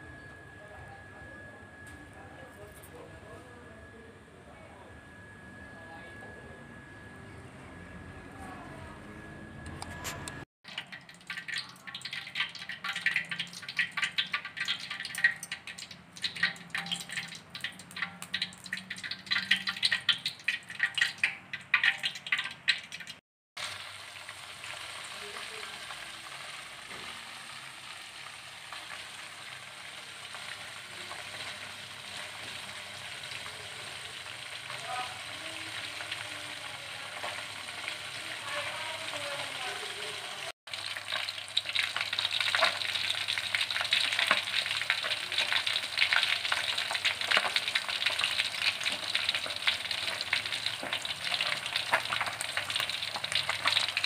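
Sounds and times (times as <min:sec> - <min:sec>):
fish frying in hot oil: 0:10.6 - 0:54.0.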